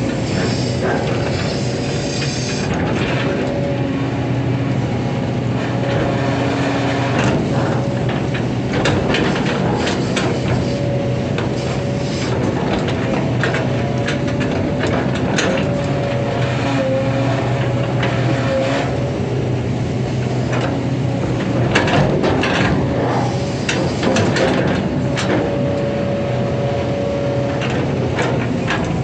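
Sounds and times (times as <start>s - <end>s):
excavator diesel engine hum: 0.0s - 29.0s.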